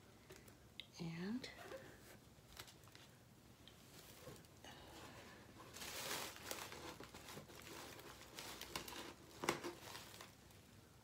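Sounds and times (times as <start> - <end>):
cotton pads crinkling and rustling: 1.6 - 10.8.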